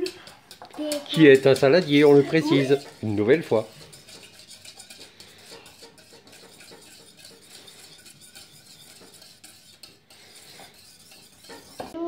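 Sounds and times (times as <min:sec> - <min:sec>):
whisk scraping metal bowl: 0:00.0 - 0:12.0.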